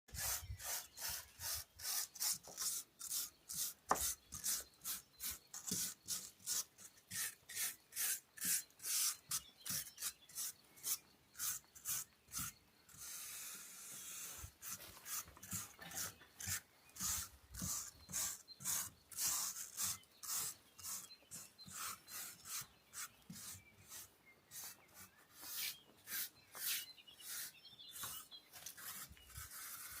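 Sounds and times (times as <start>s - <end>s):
hand scraping stone: 0.1s - 30.0s.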